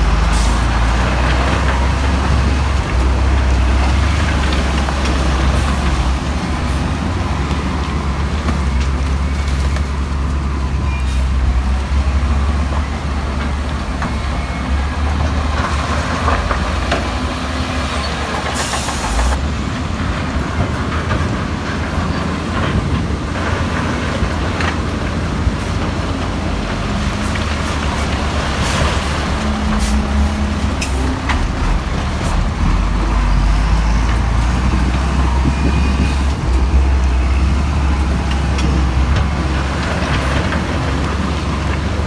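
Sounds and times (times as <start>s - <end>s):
heavy machinery engine drone: 0.0s - 42.0s.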